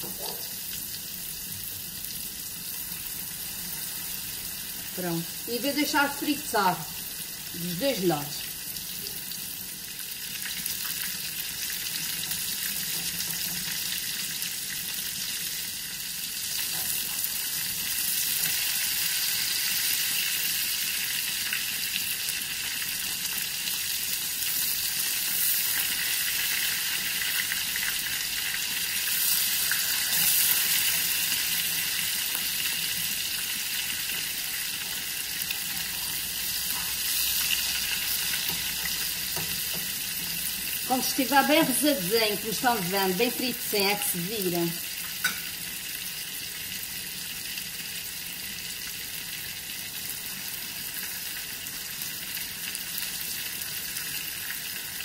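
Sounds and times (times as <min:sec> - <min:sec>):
patties sizzling in a frying pan: 0:00.0 - 0:55.0.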